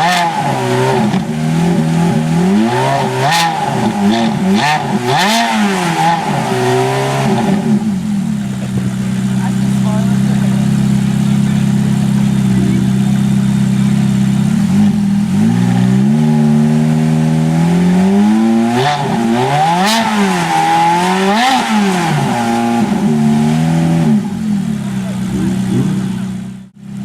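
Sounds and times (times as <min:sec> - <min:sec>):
sports car engine revving: 0:00.0 - 0:27.0.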